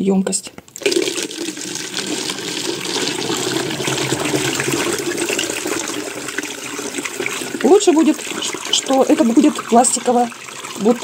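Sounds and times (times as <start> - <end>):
liquid pouring into a bottle: 0.7 - 11.0.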